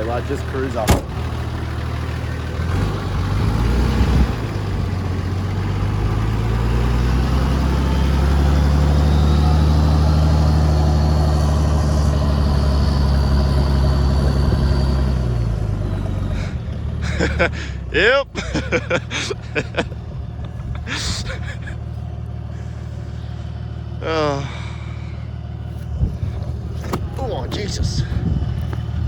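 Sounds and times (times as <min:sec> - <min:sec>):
engine pulling up a hill: 0:00.0 - 0:29.0.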